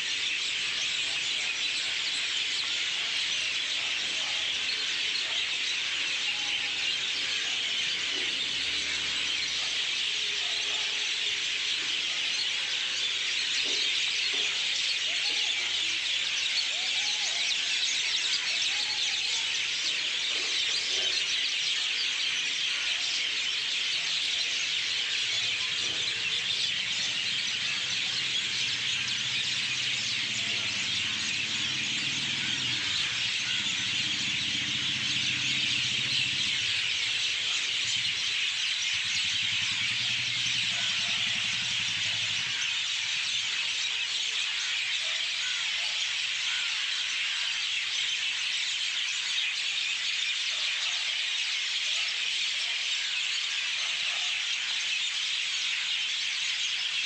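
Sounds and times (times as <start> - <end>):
many birds chirping: 0.0 - 57.0.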